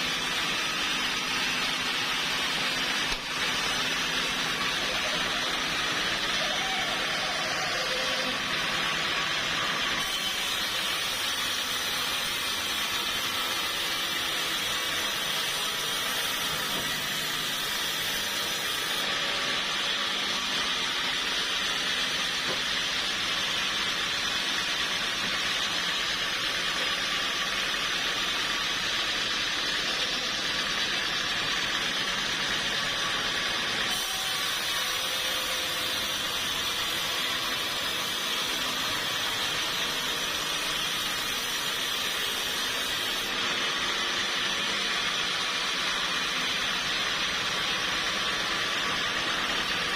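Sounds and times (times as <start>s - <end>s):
sawmill saw running: 0.0s - 49.9s.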